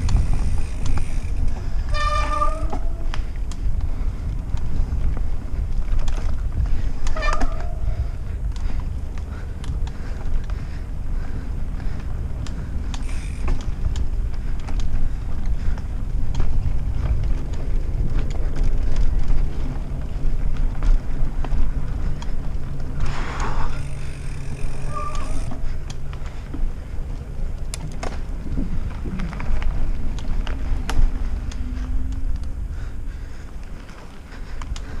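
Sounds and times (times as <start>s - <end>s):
bike clicks and rattles: 0.0s - 35.0s
bike tyres on dirt: 0.0s - 35.0s
wind rumble on microphone: 0.0s - 35.0s.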